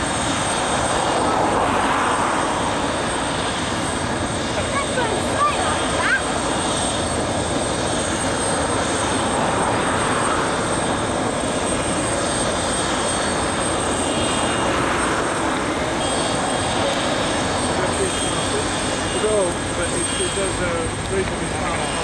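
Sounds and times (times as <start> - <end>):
jet engine rushing: 0.0 - 22.0.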